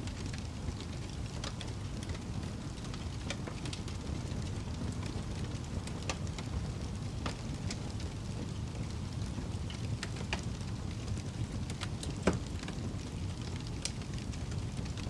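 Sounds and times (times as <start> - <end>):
fire popping and snapping: 0.0 - 15.0
fire rumbling: 0.0 - 15.0.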